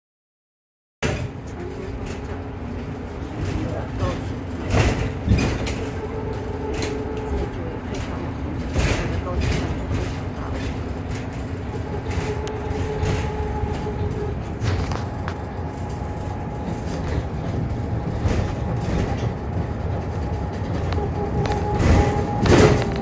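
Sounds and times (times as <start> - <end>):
bus rumbling on road: 1.0 - 23.0
short rattles and knocks: 1.0 - 23.0.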